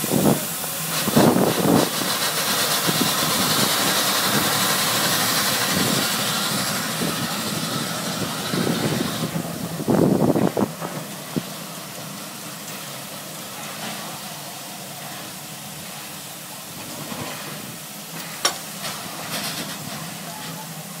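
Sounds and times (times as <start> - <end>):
steam hissing: 0.0 - 21.0.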